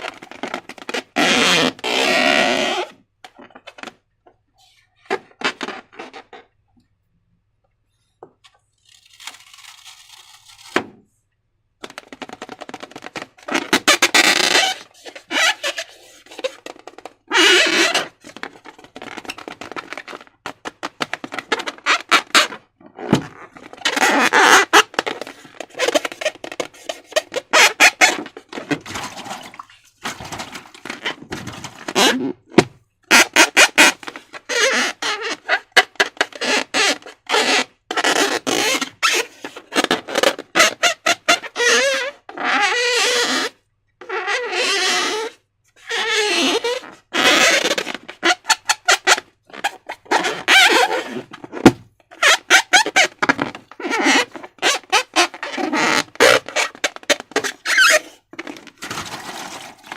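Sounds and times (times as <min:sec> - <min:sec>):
slime squelching and squeaking: 0:11.8 - 0:59.9.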